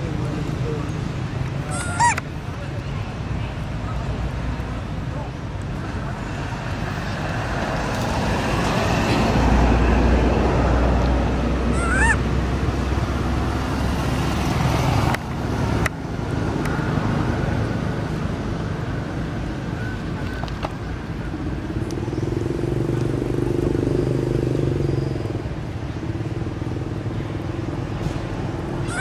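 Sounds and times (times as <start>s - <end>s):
vehicle rumble: 0.0s - 29.0s.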